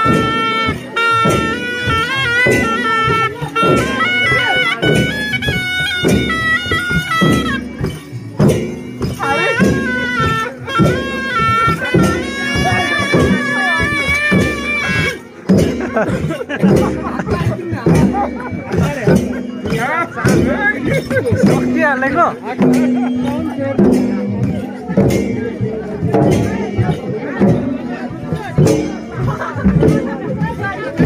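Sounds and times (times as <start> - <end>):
reed pipes playing melody: 0.0 - 25.9
drum strokes: 0.0 - 31.0.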